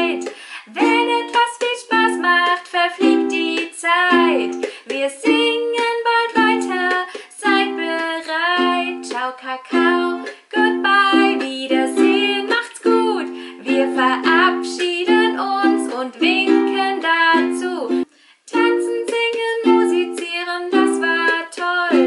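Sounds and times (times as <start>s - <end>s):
ukulele strumming: 0.0s - 22.0s
woman singing: 0.0s - 22.0s.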